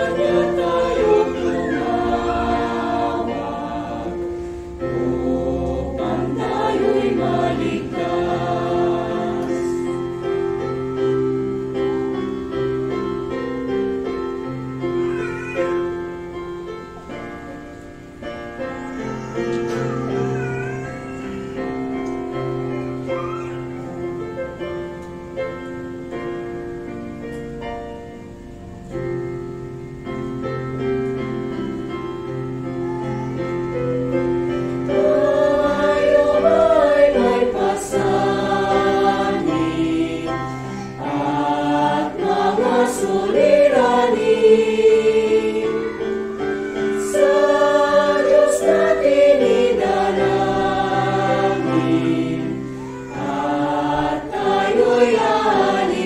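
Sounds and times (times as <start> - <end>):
choir singing a hymn: 0.0 - 14.9, 21.3 - 27.0, 30.2 - 56.0.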